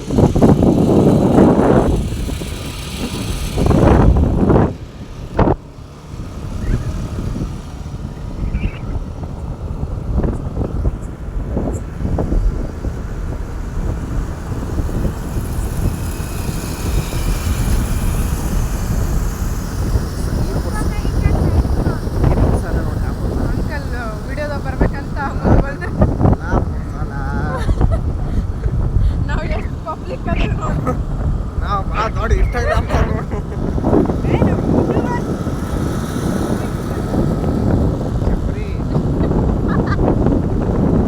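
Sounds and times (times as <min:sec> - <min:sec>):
loud rushes of noise: 0:00.0 - 0:41.0
vehicle engine rumble: 0:00.0 - 0:41.0.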